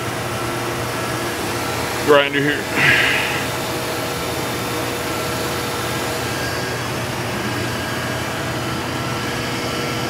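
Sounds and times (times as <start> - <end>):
machinery hum and hiss: 0.2 - 9.4.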